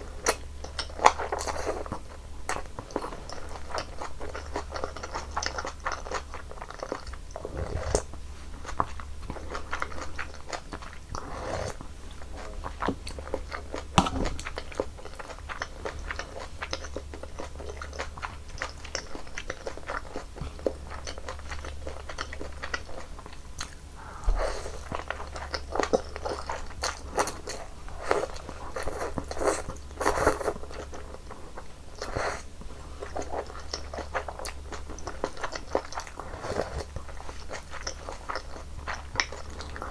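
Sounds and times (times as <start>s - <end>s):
person chewing noodles: 0.0s - 39.9s.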